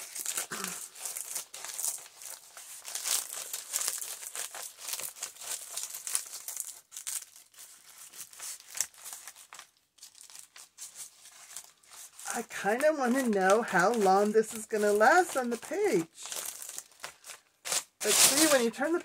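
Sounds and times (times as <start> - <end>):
dry leaves crackling: 0.0 - 18.8.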